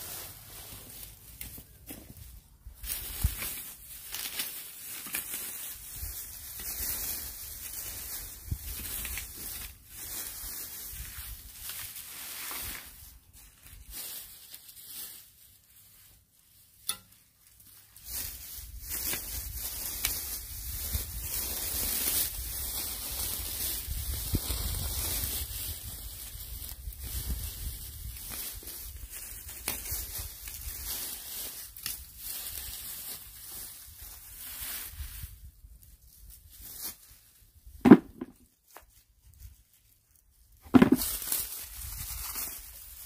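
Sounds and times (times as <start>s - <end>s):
dry grass and leaves rustling: 0.0s - 43.0s.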